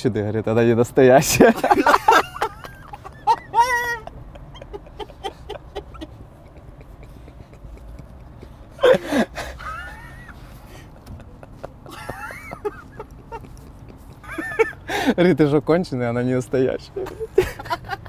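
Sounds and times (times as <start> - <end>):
man laughing: 1.3 - 15.3, 16.8 - 18.0.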